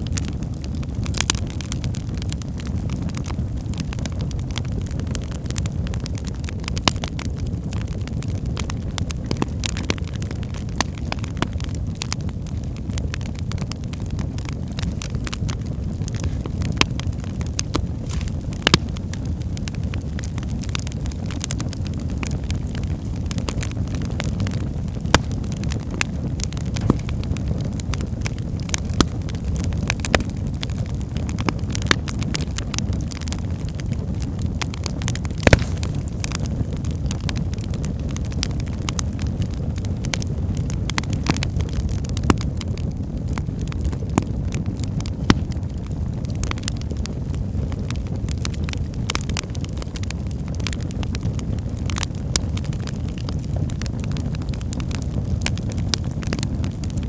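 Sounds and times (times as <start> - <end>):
fire crackling in a fireplace: 0.0 - 57.0.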